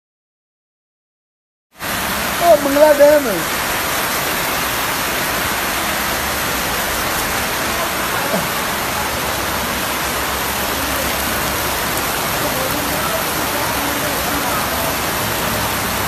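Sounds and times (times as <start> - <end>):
torrential rain hissing: 1.8 - 16.0.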